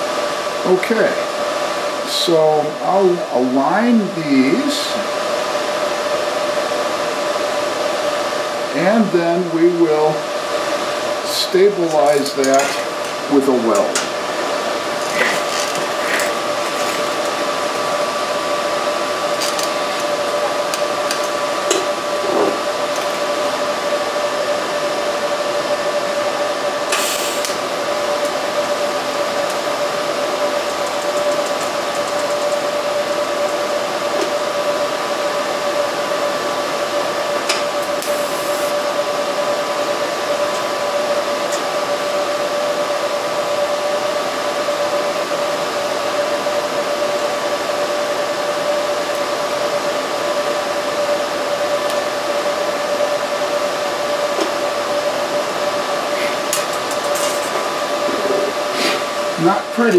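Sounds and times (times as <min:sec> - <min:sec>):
welding machine whirring hiss: 0:00.0 - 0:59.9.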